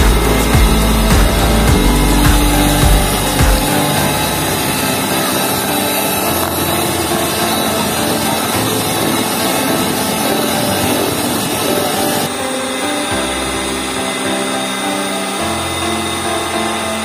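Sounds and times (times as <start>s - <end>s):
electric hand mixer whipping cream: 0.0s - 17.0s.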